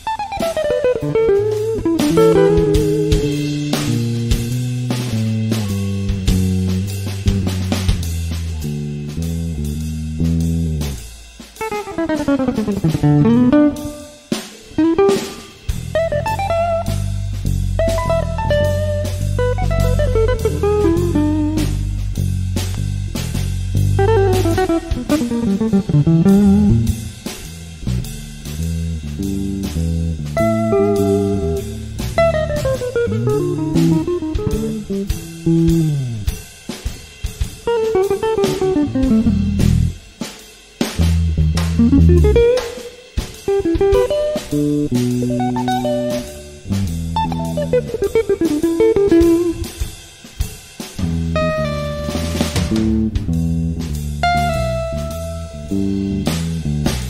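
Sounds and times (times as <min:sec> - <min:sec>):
bass guitar notes: 0:00.0 - 0:36.5, 0:37.6 - 0:40.2, 0:41.0 - 0:42.9, 0:43.5 - 0:49.9, 0:51.0 - 0:57.0
drums: 0:00.0 - 0:57.0
jazz guitar line: 0:00.0 - 0:57.0.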